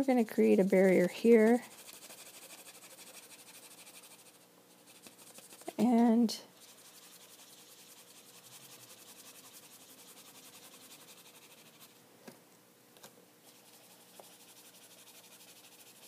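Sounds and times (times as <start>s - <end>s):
marker nib rubbing on paper: 0.4s - 6.0s, 6.6s - 12.0s, 13.5s - 16.0s.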